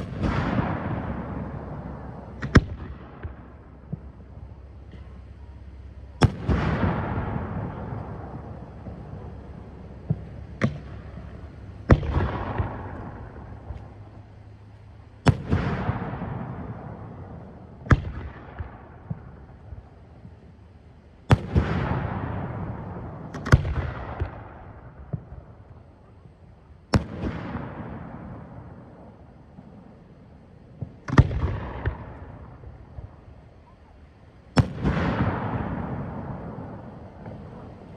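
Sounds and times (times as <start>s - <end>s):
firework bangs: 0.0s - 5.3s, 5.9s - 33.6s, 34.4s - 37.9s
echoing firework crackle: 0.0s - 37.9s.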